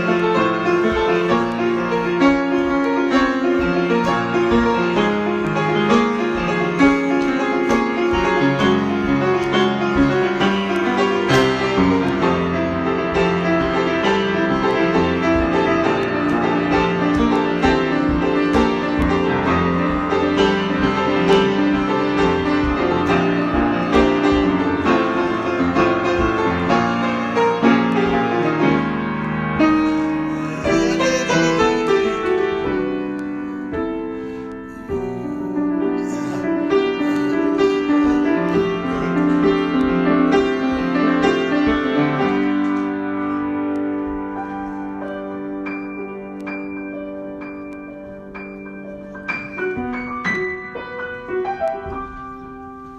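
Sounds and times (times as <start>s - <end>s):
solo piano improvisation: 0.0s - 52.9s.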